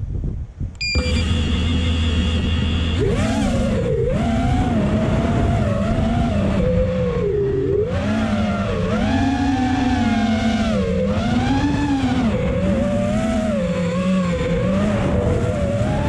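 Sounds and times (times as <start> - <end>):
wind noise: 0.0 - 16.0
drone motors whining: 0.8 - 16.0.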